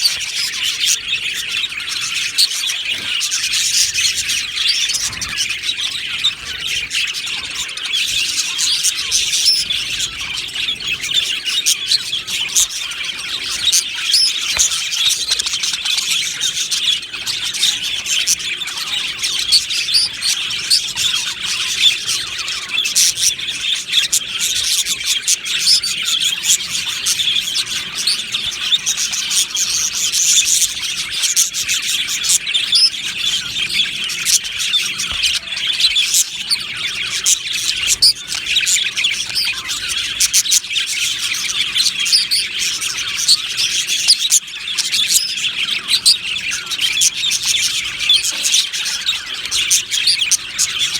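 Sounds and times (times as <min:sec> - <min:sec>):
bird squawks: 0:00.0 - 0:50.9
budgerigars chattering: 0:00.0 - 0:50.9.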